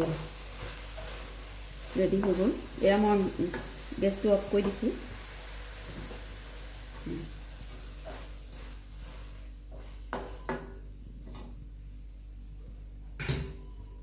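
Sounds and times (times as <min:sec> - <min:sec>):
faint sizzle: 0:00.0 - 0:14.0.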